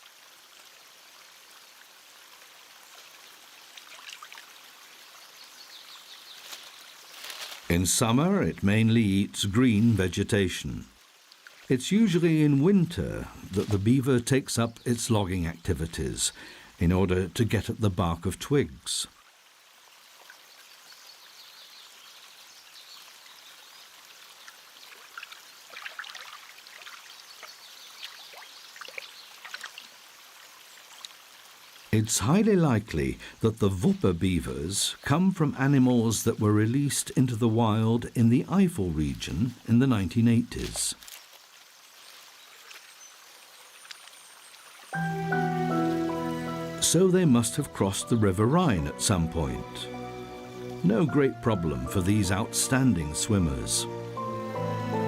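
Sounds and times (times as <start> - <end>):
stream running water: 0.0 - 55.0.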